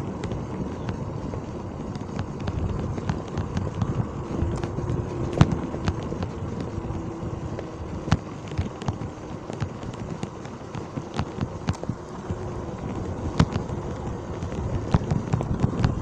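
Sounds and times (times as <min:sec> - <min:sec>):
clicking and knocking rattles: 0:00.0 - 0:16.0
wind rumbling on microphone: 0:00.0 - 0:16.0.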